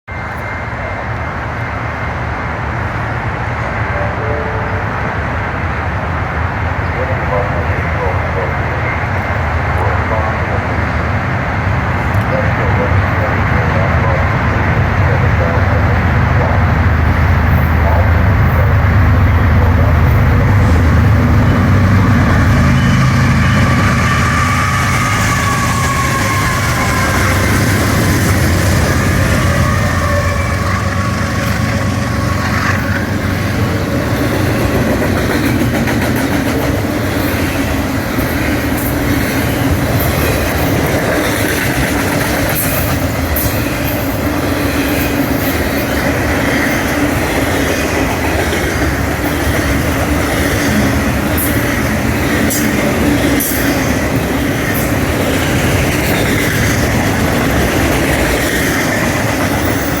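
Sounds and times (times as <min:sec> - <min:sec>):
freight train wheels on rails: 0:00.1 - 1:00.0.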